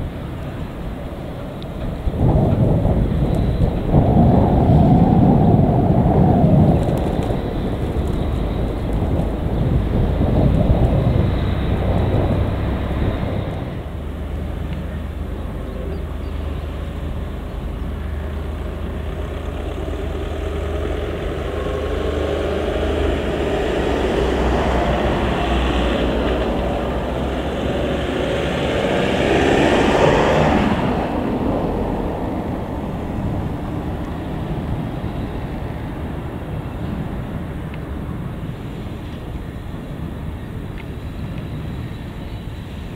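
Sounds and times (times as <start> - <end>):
diesel locomotive engine: 0.0 - 42.9.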